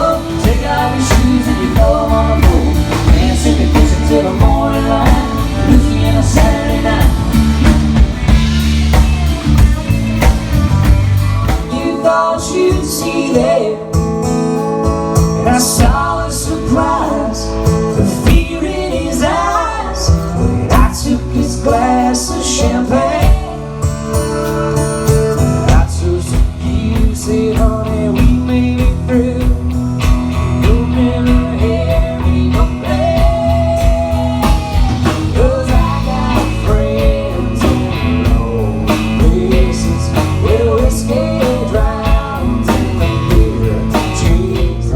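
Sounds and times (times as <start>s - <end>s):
country-rock song: 0.0s - 44.9s.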